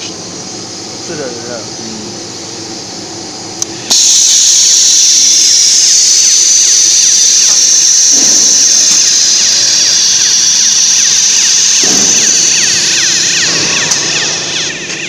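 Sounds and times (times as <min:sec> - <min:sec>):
motor high-pitched hissing whine: 0:00.0 - 0:15.0.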